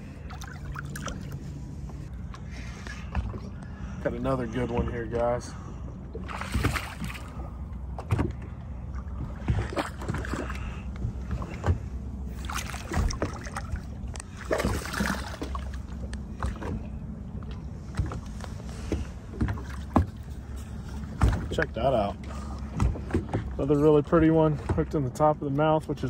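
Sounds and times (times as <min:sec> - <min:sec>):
steady low hum: 0:00.0 - 0:26.0
water splashes: 0:00.0 - 0:26.0.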